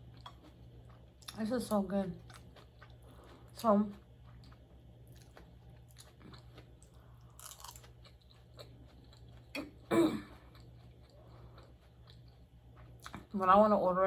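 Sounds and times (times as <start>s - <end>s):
chewing food: 0.0s - 13.7s.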